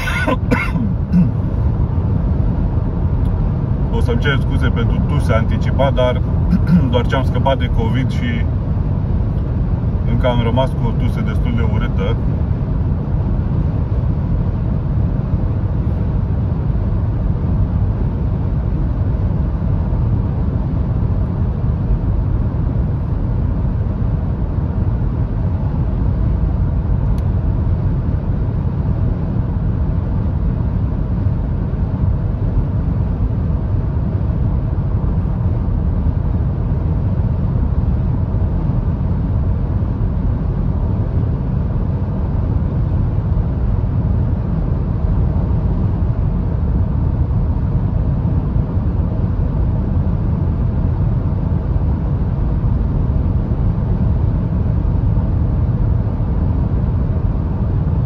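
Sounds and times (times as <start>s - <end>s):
car cabin rumble at speed: 0.0s - 58.0s.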